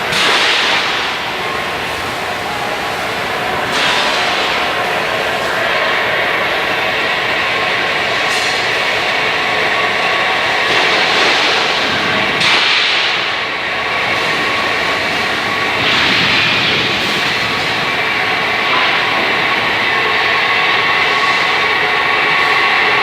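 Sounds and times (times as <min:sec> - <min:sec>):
loud steady machine noise: 0:00.0 - 0:23.0.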